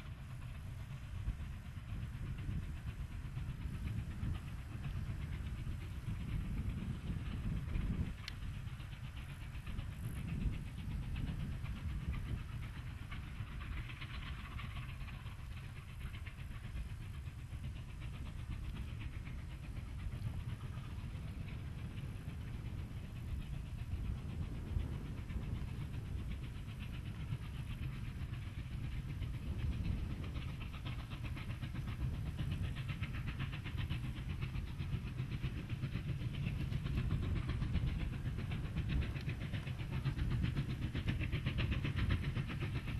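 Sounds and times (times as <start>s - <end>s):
low rumble of train: 0.0s - 42.9s
steam locomotive exhaust beats: 0.0s - 42.9s.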